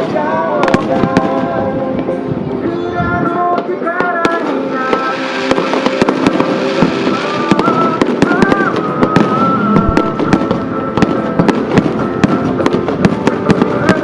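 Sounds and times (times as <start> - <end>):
fireworks crackling and popping: 0.0 - 2.3, 3.0 - 14.0
music playing: 0.0 - 14.0.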